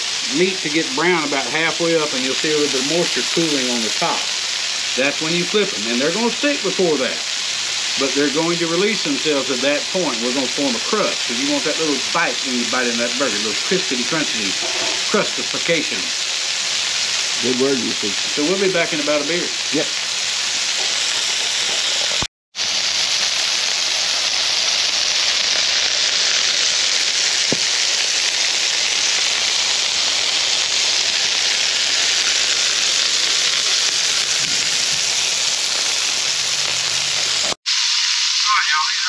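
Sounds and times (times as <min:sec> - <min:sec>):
burger patties sizzling in oil: 0:00.0 - 0:39.0.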